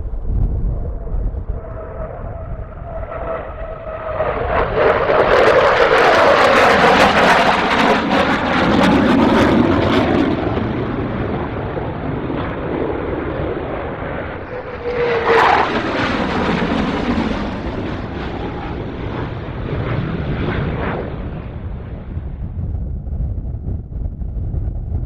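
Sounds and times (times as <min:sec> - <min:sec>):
jet aircraft flying low past: 0:00.0 - 0:25.0.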